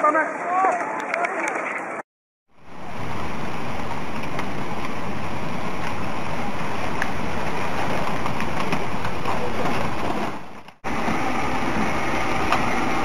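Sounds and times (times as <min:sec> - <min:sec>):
floodwater rushing: 0:02.6 - 0:13.0.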